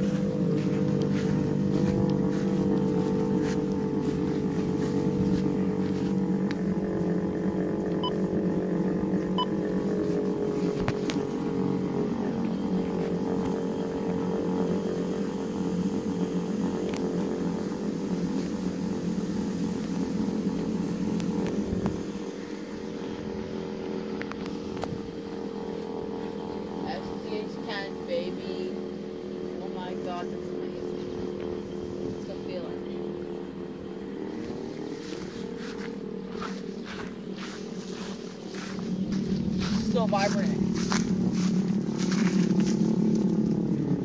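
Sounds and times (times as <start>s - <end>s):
outdoor warning siren steady tone: 0.0s - 44.0s.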